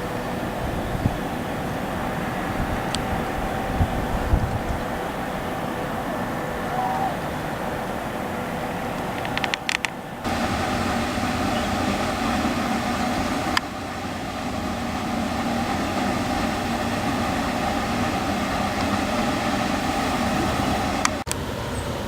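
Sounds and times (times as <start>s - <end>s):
engine-like hum: 0.0s - 22.0s
rushing noise: 0.0s - 22.0s.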